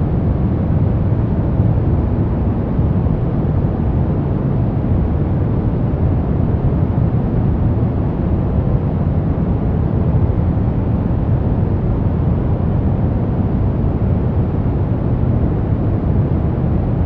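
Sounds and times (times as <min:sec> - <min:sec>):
deep rumbling brown noise: 0:00.0 - 0:17.0.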